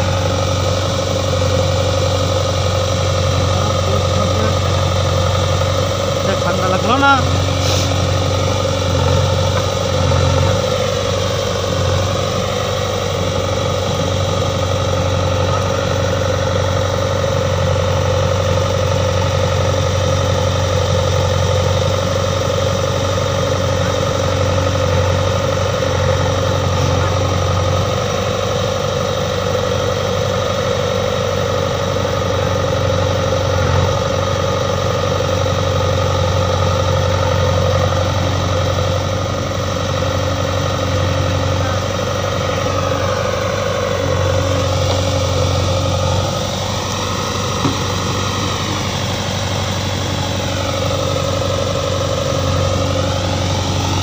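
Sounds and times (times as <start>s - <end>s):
backhoe digging and dumping soil: 0.0s - 18.9s, 22.8s - 28.8s, 32.7s - 54.0s
diesel engine running: 0.0s - 54.0s.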